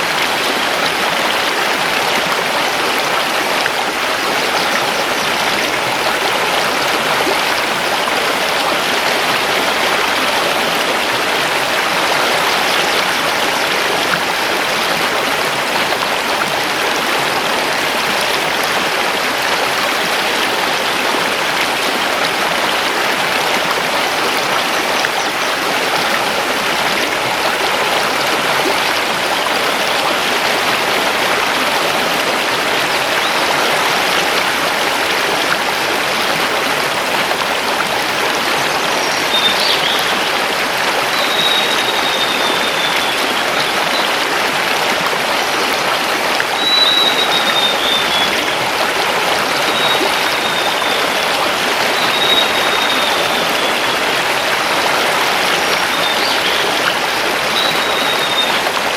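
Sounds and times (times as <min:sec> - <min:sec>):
river rushing over stones: 0:00.0 - 0:58.9.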